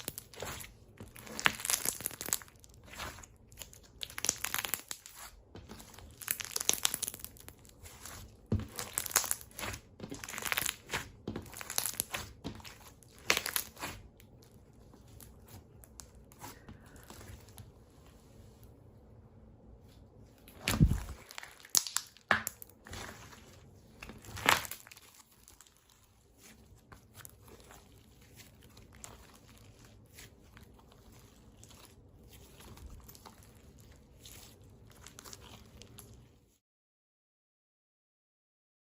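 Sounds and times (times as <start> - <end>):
slime crackling and popping: 0.0 - 17.6, 20.4 - 36.2.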